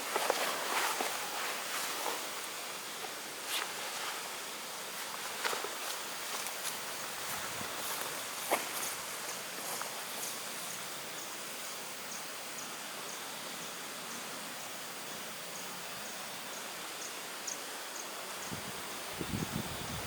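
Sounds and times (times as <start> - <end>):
insect chirping: 0.0 - 20.0
steady hiss: 0.0 - 20.0.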